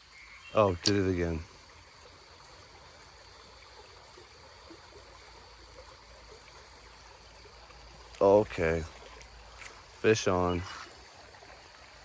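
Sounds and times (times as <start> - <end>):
creek water trickling: 0.0 - 12.0.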